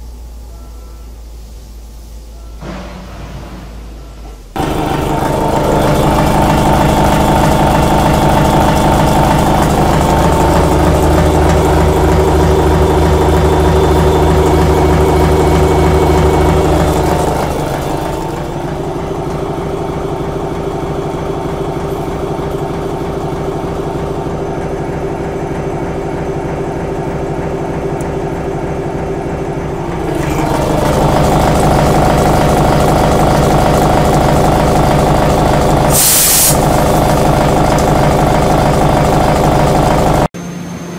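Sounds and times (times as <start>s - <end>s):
milling machine hum: 4.6s - 40.3s.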